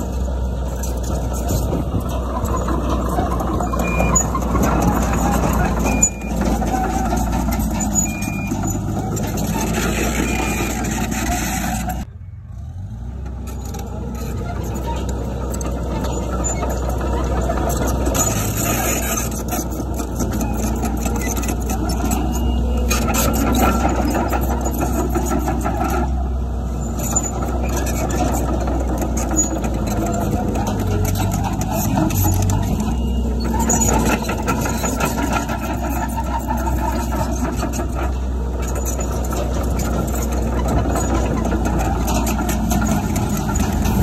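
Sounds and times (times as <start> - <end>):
heavy diesel machinery engine: 0.0 - 44.0.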